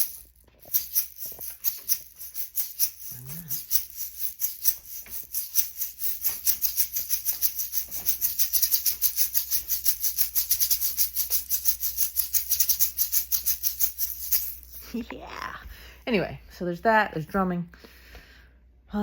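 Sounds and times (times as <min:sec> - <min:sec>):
hand shaker rattling: 0:00.0 - 0:15.2.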